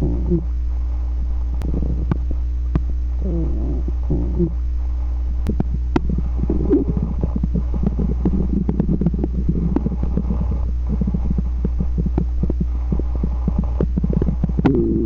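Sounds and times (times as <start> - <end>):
stomach growling: 0.0 - 0.6, 1.5 - 4.7, 5.4 - 15.0
steady low hum: 0.0 - 15.0.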